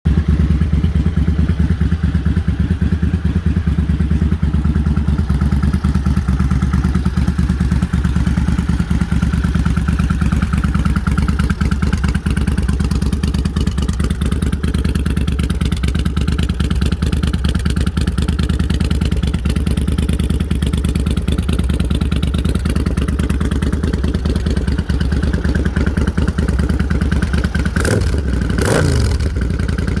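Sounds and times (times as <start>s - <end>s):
motorcycle engine idling: 0.1s - 30.0s.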